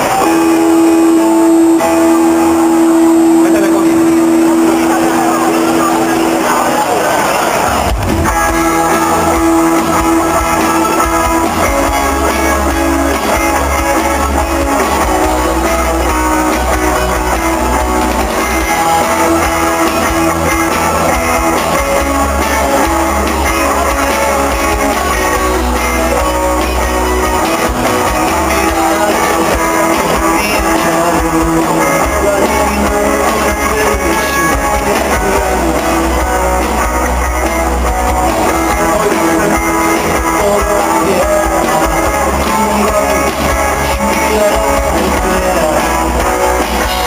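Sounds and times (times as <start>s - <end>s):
rock band playing: 0.0s - 47.0s.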